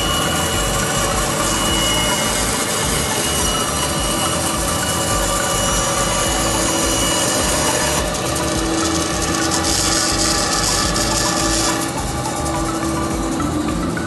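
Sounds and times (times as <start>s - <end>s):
saw cutting through wood: 0.0s - 14.0s.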